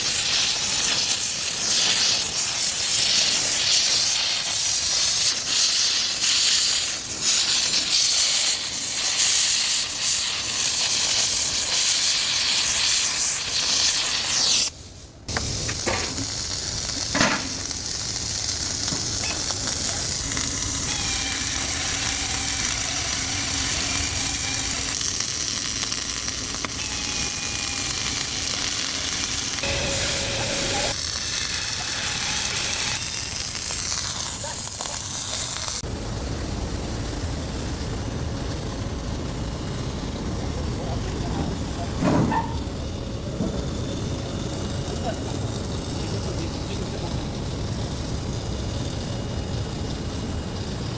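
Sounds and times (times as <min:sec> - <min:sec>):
welder arc crackling sizzle: 0:00.0 - 0:50.9.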